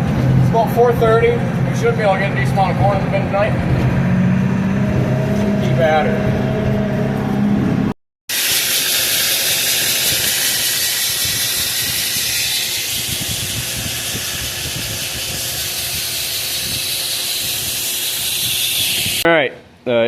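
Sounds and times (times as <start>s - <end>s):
combine harvester running: 0.0s - 19.2s.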